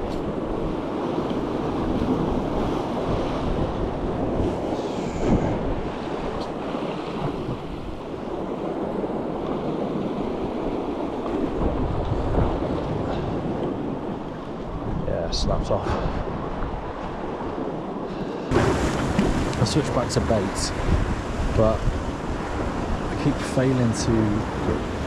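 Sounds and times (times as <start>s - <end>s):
surf washing against rocks: 0.0s - 25.0s
wind buffeting microphone: 0.0s - 25.0s.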